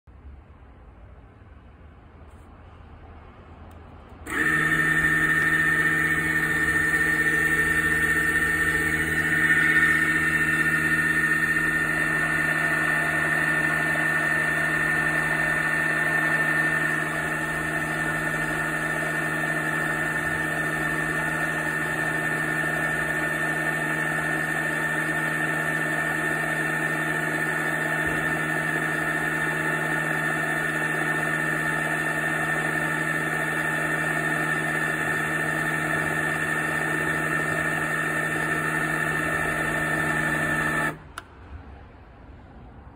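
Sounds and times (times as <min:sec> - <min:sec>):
mini lathe motor whine: 0:04.3 - 0:41.0.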